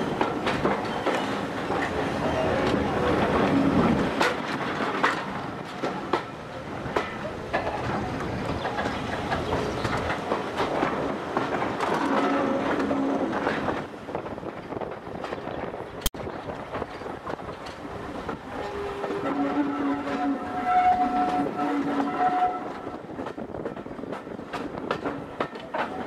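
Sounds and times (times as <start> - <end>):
train carriage rumbling on track: 0.0 - 26.0.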